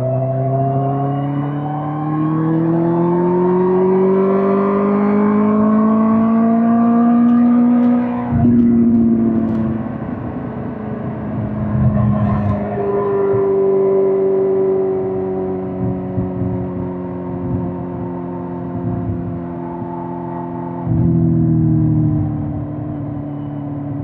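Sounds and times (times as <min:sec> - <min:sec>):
motorcycle engine accelerating: 0:01.3 - 0:24.0.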